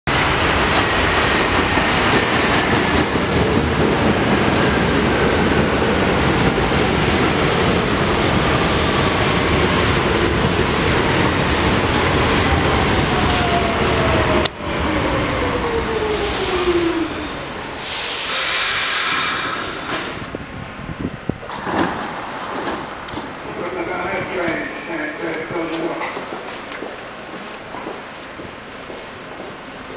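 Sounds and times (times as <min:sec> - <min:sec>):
wheels rumbling on rail: 0:00.1 - 0:29.9.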